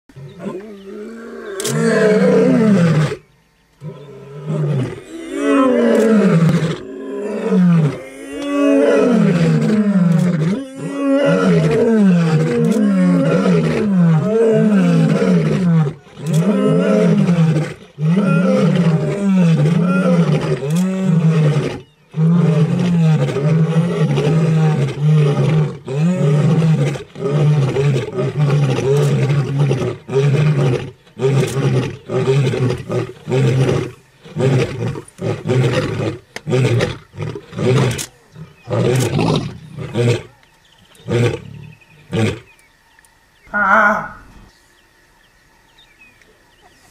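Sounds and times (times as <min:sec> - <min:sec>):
lions roaring: 0:00.2 - 0:03.2, 0:03.8 - 0:42.5, 0:43.5 - 0:44.5.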